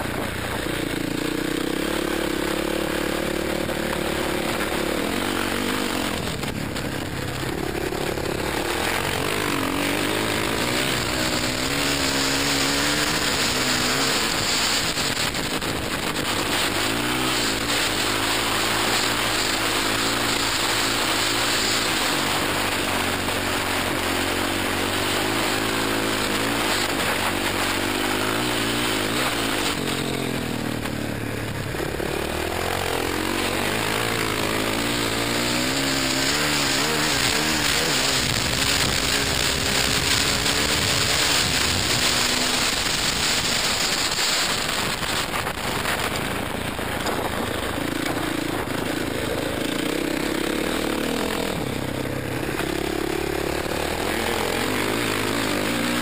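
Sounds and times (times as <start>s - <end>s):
wind noise on helmet camera: 0.0s - 52.8s
dirt bike engine revving: 0.0s - 56.0s.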